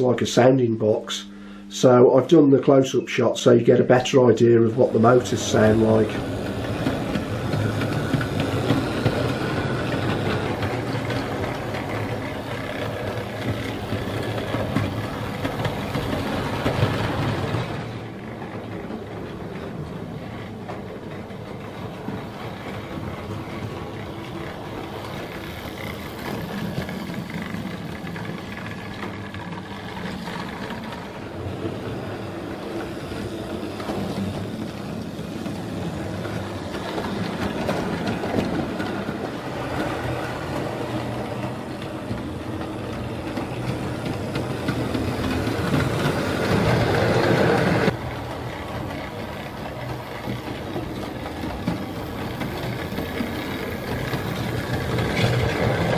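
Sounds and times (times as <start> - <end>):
wheels rattling over track: 3.7 - 55.9.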